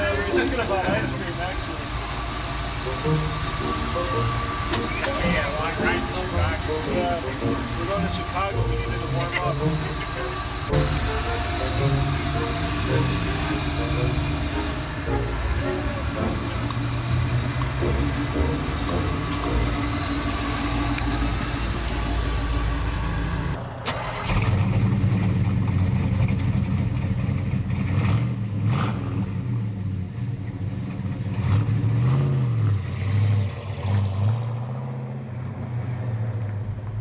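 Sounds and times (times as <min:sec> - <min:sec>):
car engine accelerating and shifting: 0:00.0 - 0:37.0
steady car engine drone: 0:00.0 - 0:37.0.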